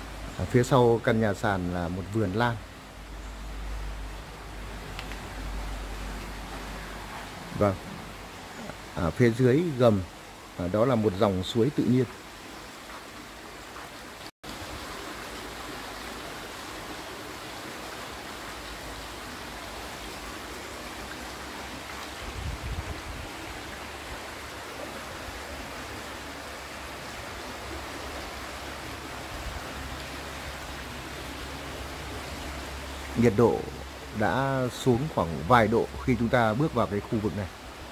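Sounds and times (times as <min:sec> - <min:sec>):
stream rushing over rocks: 0:00.0 - 0:37.9.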